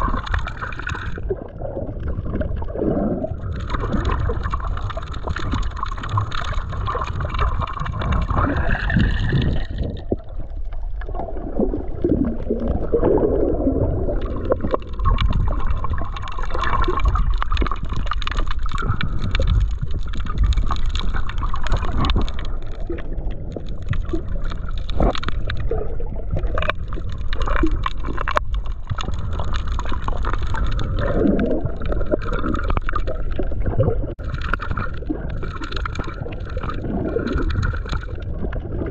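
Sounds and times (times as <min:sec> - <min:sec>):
muffled underwater rumble with gurgling: 0:00.0 - 0:38.9.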